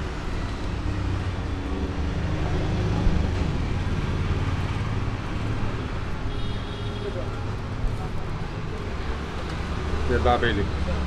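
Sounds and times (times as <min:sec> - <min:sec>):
street traffic rumble: 0:00.0 - 0:11.0
vehicle engines running nearby: 0:00.0 - 0:11.0.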